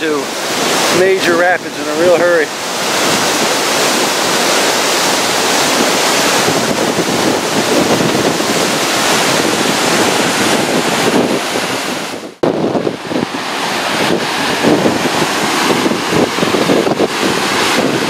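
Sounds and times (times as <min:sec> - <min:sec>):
rushing whitewater: 0:00.0 - 0:18.0
wind on microphone: 0:00.0 - 0:18.0.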